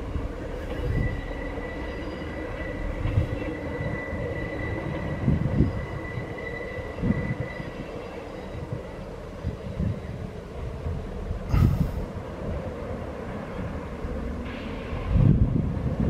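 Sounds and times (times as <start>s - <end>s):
wind buffeting microphone: 0.0s - 1.5s, 2.5s - 16.0s
distant diesel train rumbling: 0.0s - 16.0s.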